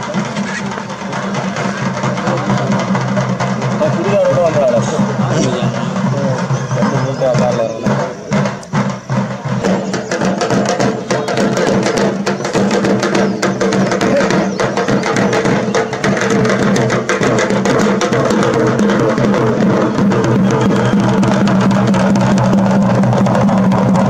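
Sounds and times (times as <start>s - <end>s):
frame drum beaten with sticks: 0.0s - 24.0s
small stick-beaten drum: 0.0s - 24.0s.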